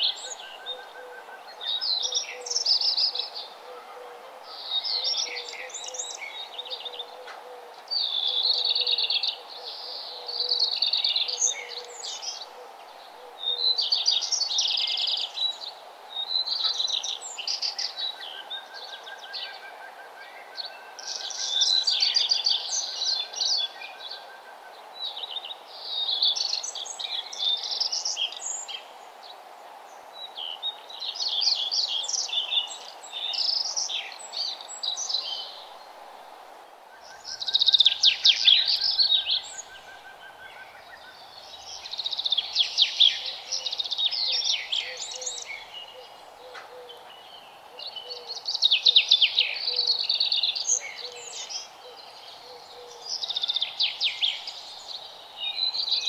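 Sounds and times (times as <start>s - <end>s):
songbirds twittering: 0.0s - 56.0s.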